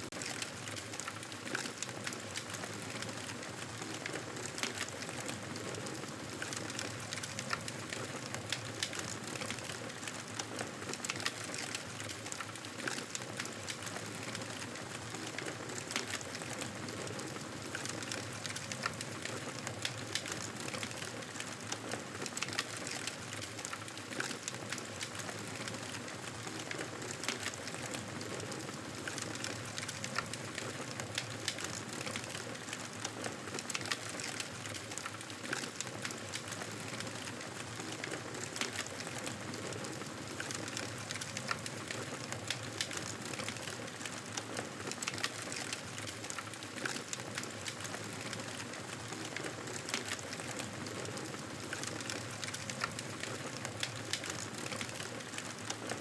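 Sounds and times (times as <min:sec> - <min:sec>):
burning wood crackling and popping: 0:00.0 - 0:56.0.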